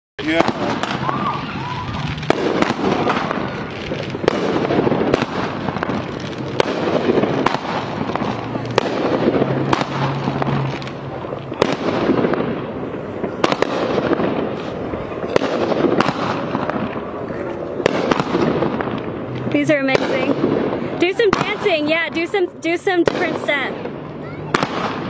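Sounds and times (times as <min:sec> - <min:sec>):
dense fireworks din: 0:00.2 - 0:25.0
fireworks bangs: 0:00.2 - 0:25.0.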